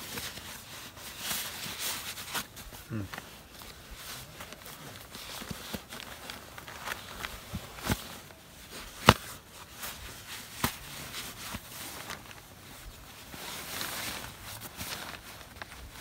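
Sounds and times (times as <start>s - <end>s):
nylon sack and tarp rustling: 0.0s - 16.0s.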